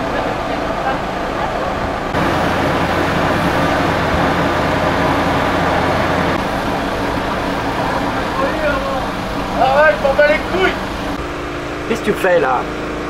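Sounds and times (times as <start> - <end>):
boat hoist engine running: 0.0 - 11.6.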